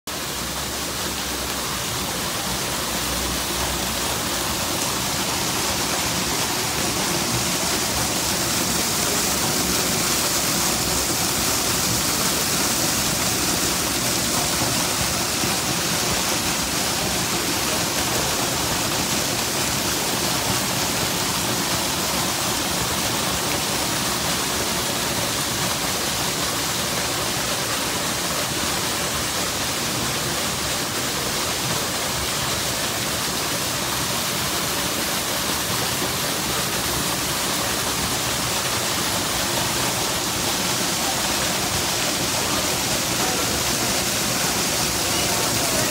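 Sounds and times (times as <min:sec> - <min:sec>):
waterfall splashing onto rocks: 0:00.0 - 0:45.9.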